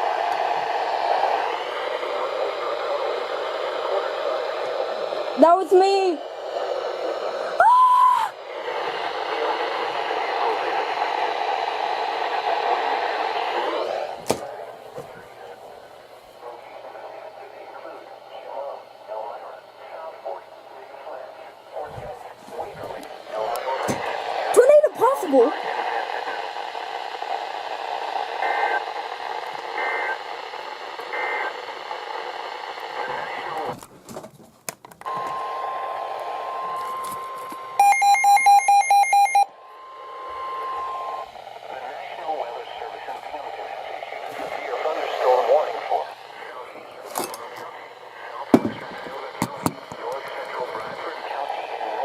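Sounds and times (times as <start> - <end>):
radio static hiss: 0.0 - 7.6, 8.3 - 34.0, 35.0 - 37.8, 39.5 - 52.0.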